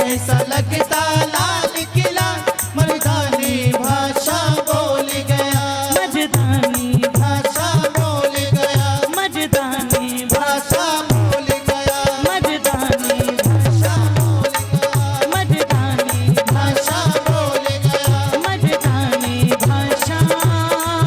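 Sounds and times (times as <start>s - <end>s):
person singing folk song: 0.0s - 21.0s
rattling percussion: 0.0s - 21.0s
steady drum beat: 0.0s - 21.0s.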